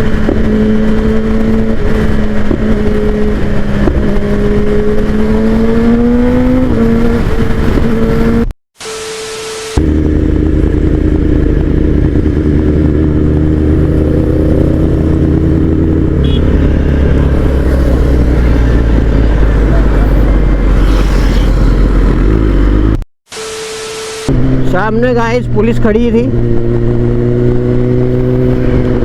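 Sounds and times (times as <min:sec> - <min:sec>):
motorcycle engine running: 0:00.0 - 0:08.5, 0:09.8 - 0:23.0, 0:24.3 - 0:29.0.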